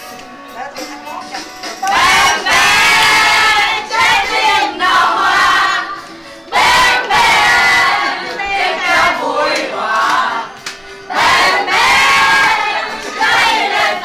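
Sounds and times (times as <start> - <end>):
crowd chanting and shouting: 1.8 - 14.0.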